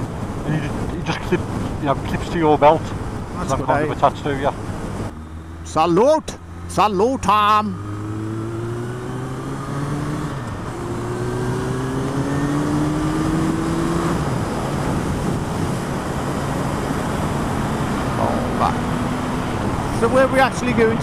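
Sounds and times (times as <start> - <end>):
wind and road noise: 0.0 - 21.0
motorcycle engine accelerating: 3.5 - 21.0.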